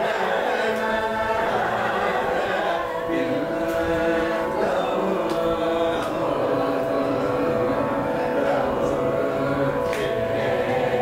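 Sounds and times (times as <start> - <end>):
voices singing unaccompanied: 0.0 - 11.0.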